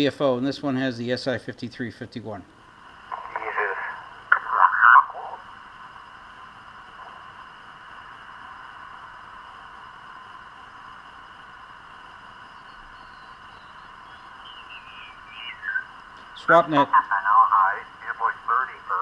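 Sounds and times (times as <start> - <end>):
faint high whines: 0.0 - 19.0
radio hiss: 0.0 - 19.0.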